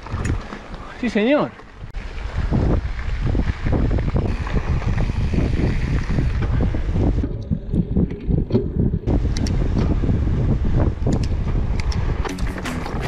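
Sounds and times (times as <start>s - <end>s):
low rumble of bike on trail: 0.0s - 13.0s
wind rushing over microphone: 1.8s - 13.0s.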